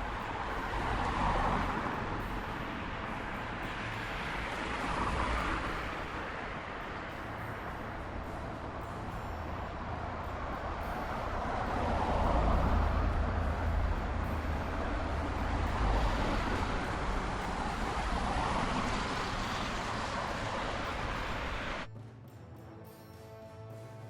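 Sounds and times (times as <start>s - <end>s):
heavy vehicle engine rumble: 0.0s - 21.9s
road and wind noise: 0.0s - 24.0s.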